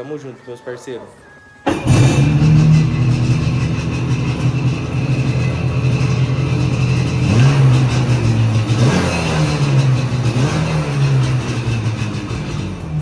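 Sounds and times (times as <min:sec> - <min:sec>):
engine revving: 0:01.7 - 0:13.0.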